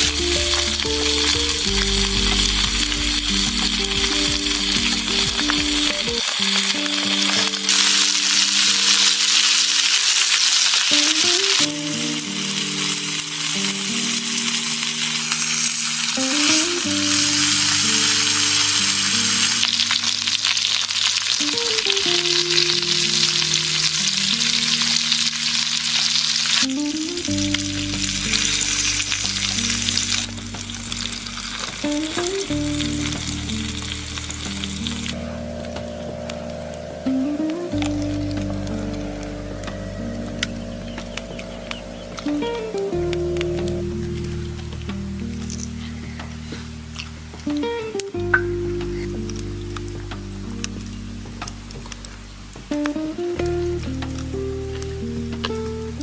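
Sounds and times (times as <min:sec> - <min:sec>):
food sizzling in a pan: 0:00.0 - 0:56.0
soft background music: 0:00.0 - 0:56.0.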